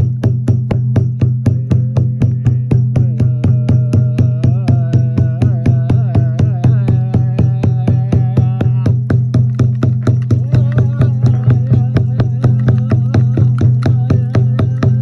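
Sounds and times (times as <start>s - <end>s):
percussive beat: 0.0s - 15.0s.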